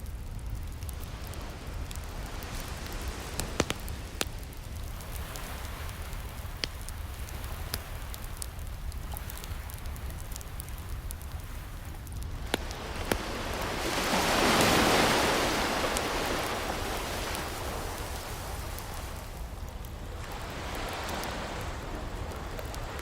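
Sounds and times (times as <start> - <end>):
ocean waves: 0.0 - 23.0
wood fire crackling and popping: 0.0 - 23.0.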